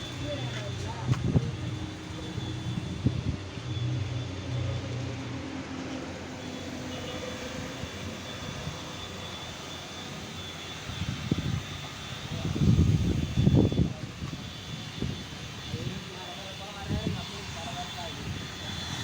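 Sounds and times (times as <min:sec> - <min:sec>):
machine drone with high whine: 0:00.0 - 0:19.0.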